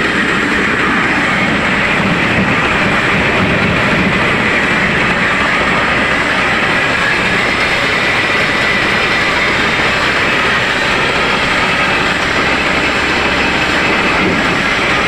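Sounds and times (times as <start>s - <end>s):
thresher machinery clattering: 0.0s - 15.0s.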